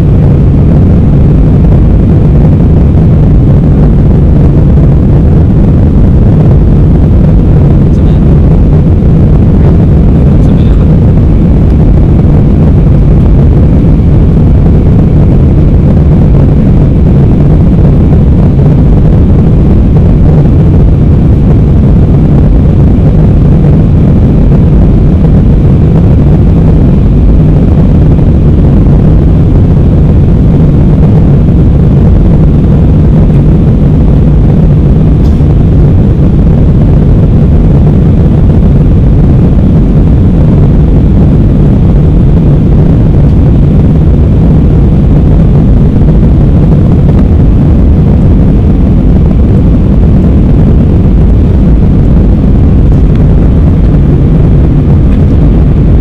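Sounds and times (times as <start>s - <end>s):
jet cabin roar: 0.0s - 56.0s.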